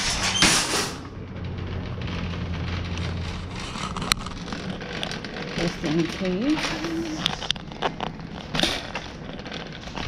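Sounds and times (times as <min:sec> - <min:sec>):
cart frame rattling: 0:00.0 - 0:10.0
shopping cart wheels rolling: 0:00.0 - 0:10.0.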